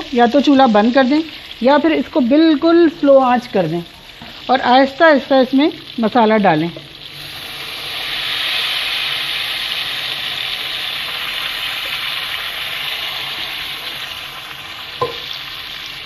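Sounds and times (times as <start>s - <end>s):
kebabs sizzling in hot oil: 0.0s - 16.0s.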